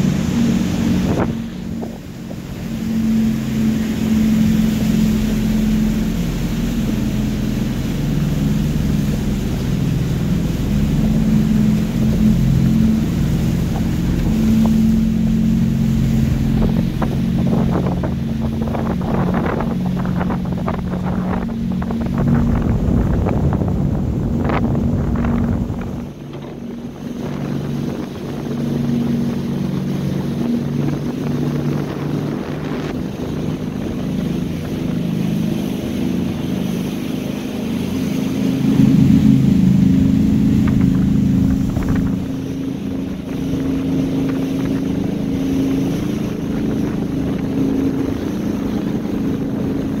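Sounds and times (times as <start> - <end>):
motorboat engine humming: 0.0 - 50.0
wind on microphone: 0.0 - 50.0.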